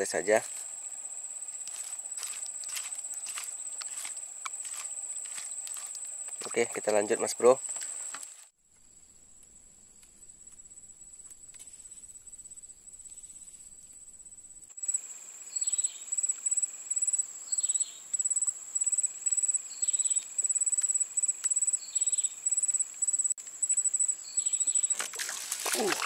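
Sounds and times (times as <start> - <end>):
insects chirping in high trill: 0.0 - 26.0.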